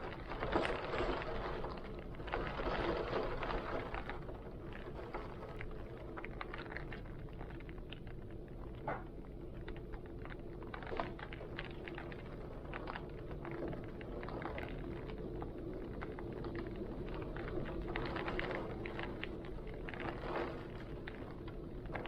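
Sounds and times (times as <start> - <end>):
heavy rain falling: 0.0 - 22.0
rain drop impacts: 0.0 - 22.0.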